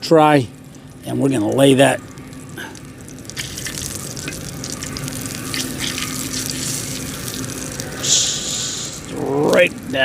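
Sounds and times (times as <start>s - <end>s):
grease sizzling on a griddle: 0.0s - 10.0s.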